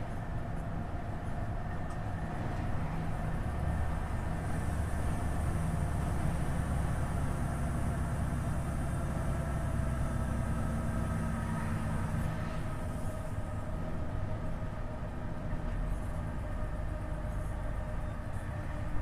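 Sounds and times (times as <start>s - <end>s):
truck diesel engine drone: 0.0s - 19.0s.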